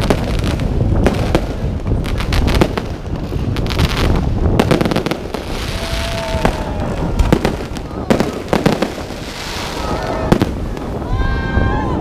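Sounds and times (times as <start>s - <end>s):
fireworks bangs and pops: 0.0s - 11.2s
low rumble of booming: 0.0s - 12.0s.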